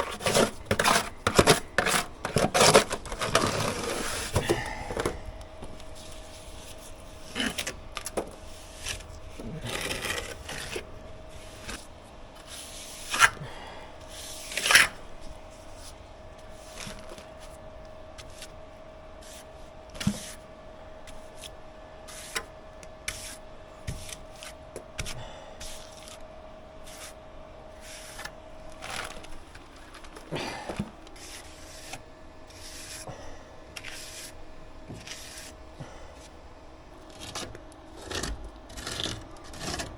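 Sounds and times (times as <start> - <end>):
tools and materials being handled: 0.0 - 18.6, 19.2 - 39.9
faint steady hum: 0.0 - 39.9.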